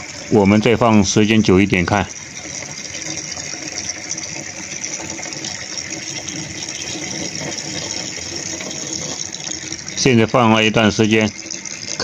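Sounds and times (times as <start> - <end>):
water splashing on steel bowl: 0.0 - 12.0.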